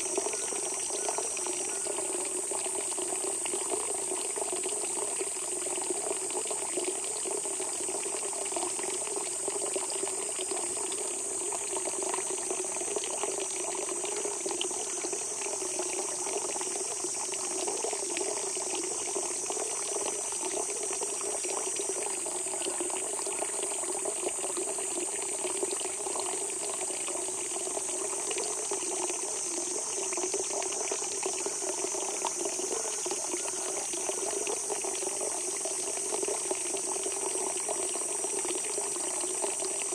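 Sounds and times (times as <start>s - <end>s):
spring water gushing: 0.0s - 39.9s.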